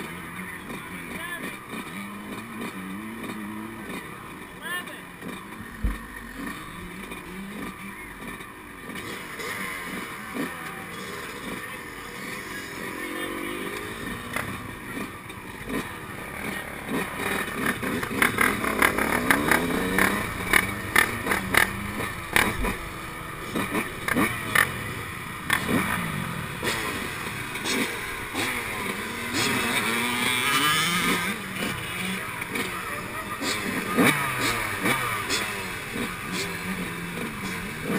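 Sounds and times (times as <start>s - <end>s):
two-stroke motorcycle engine revving: 0.0s - 37.9s.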